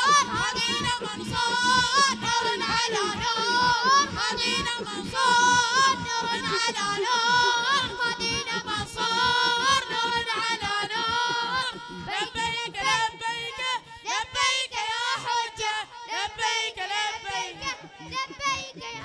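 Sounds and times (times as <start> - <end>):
boys singing a chant: 0.0 - 19.0.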